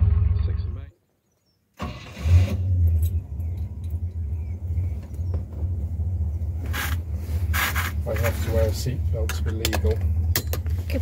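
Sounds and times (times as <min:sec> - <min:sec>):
car engine idling: 0:02.2 - 0:11.0.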